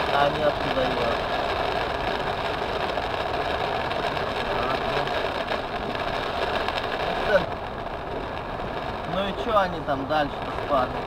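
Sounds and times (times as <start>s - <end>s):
heavy rain on car roof: 0.0s - 11.0s.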